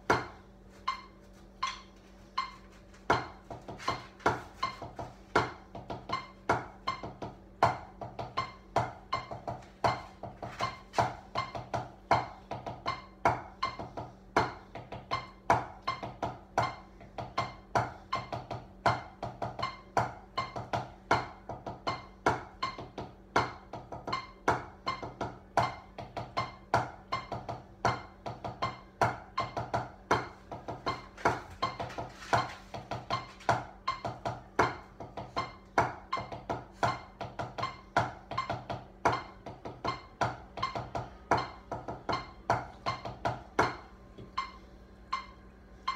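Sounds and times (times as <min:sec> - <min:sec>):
drumsticks on practice pad: 0:00.0 - 0:18.4, 0:23.6 - 0:45.9.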